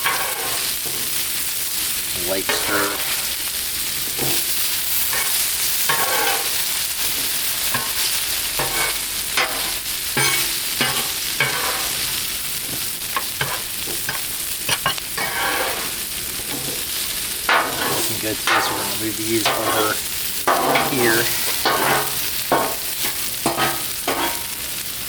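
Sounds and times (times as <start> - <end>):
metal spatula scraping griddle: 0.0 - 1.2, 2.2 - 3.4, 5.1 - 16.9, 17.5 - 24.6
vegetables sizzling in oil: 0.0 - 25.0.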